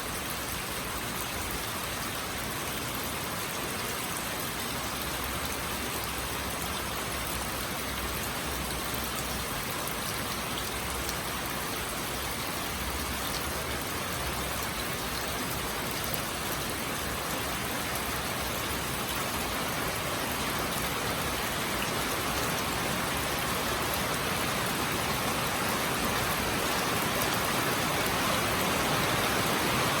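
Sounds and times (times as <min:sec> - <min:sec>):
steady rainfall: 0:00.0 - 0:30.0.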